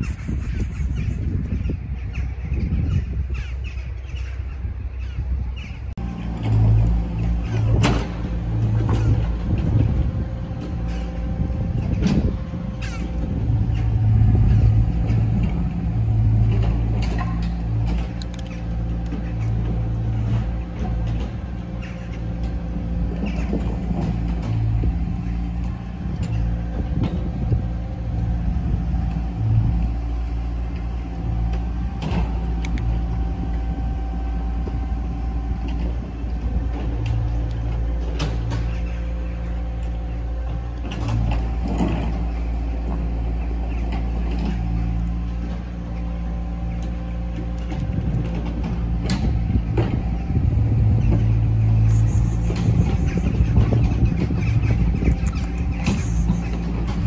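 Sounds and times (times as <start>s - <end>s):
motor humming: 0.0s - 57.0s.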